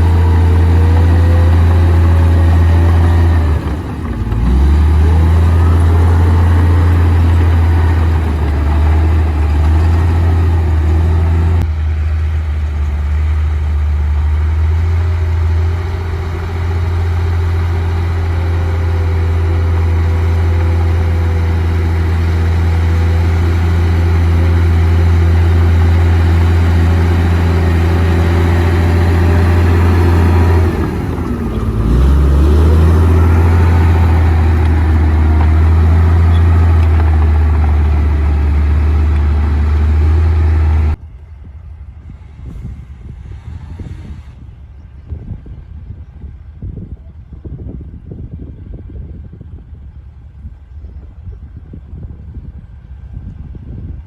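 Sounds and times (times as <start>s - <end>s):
bulldozer diesel engine humming: 0.0s - 47.3s.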